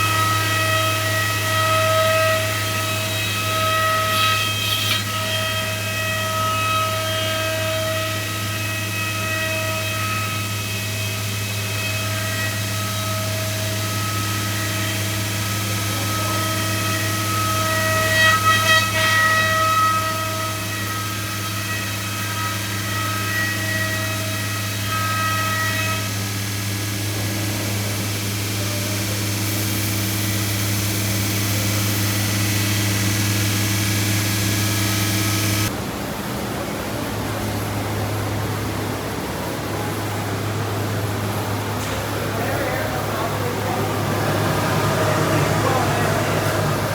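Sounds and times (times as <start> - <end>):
router spindle whine: 0.0 - 35.8, 39.7 - 46.9.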